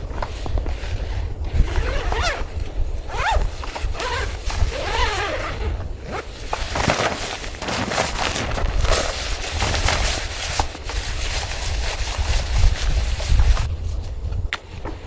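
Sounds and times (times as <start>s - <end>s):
zipper rasping: 0.0s - 13.7s
low wind rumble: 0.0s - 15.0s.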